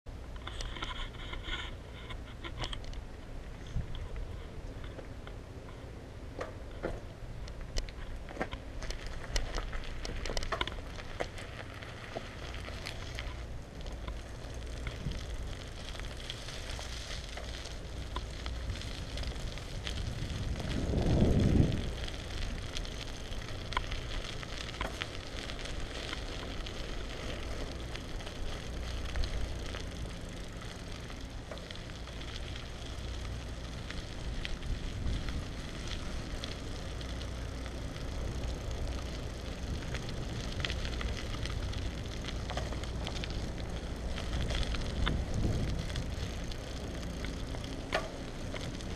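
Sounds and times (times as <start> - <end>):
bike tyres rolling on wet pavement: 0.1 - 48.9
wind rumbling on microphone: 0.2 - 48.9
small clicks: 0.3 - 3.1, 6.4 - 20.1, 21.8 - 48.9.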